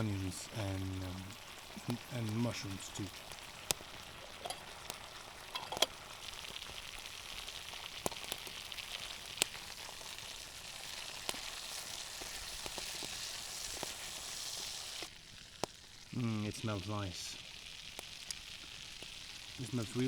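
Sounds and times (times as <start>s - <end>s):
vegetables sizzling in a pan: 0.0s - 20.0s
sharp pops and clicks: 0.9s - 15.9s, 17.4s - 20.0s.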